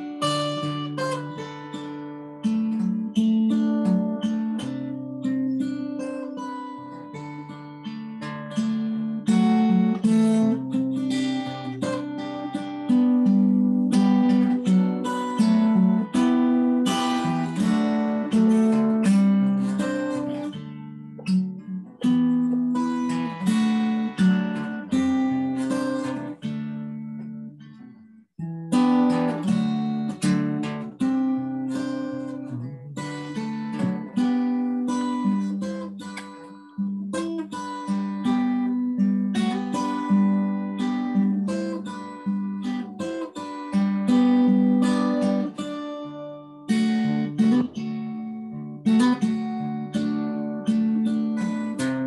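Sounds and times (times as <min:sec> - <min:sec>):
solo guitar picked chords: 0:00.0 - 0:52.0.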